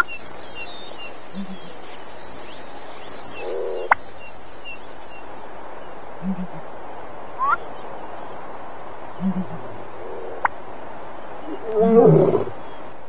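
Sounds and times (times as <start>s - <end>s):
small birds and insects chirping: 0.0s - 13.0s.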